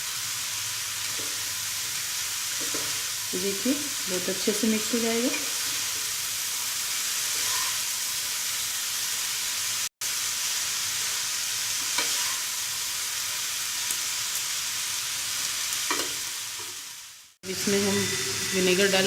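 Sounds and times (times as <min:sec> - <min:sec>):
noodles sizzling in hot oil: 0:00.0 - 0:19.0.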